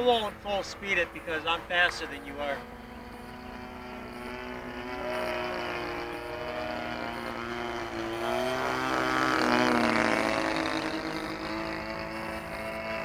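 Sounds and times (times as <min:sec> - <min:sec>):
model airplane motors droning: 0:00.0 - 0:13.0.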